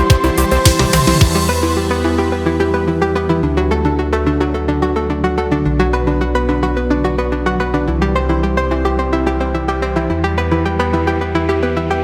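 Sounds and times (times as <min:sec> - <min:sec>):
electronic synthesizer music: 0:00.0 - 0:12.0.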